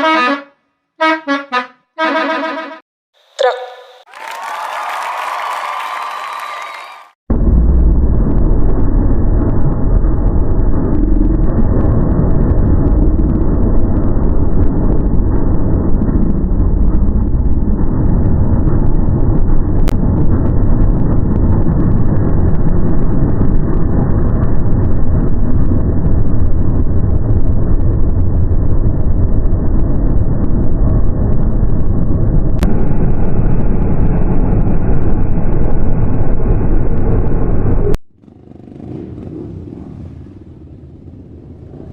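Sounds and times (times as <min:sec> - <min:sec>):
vehicle engine rumbling: 0:07.3 - 0:41.9.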